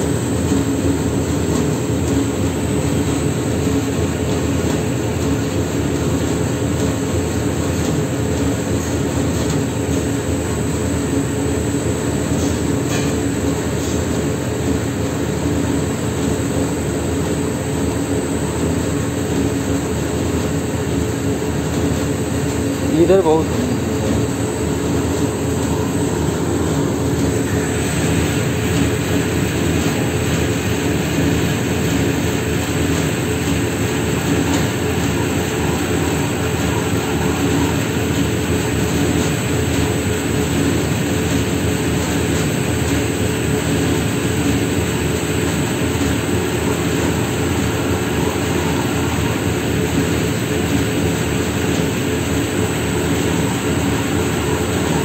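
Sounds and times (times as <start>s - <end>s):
roll mill mechanical hum: 0.0s - 55.0s.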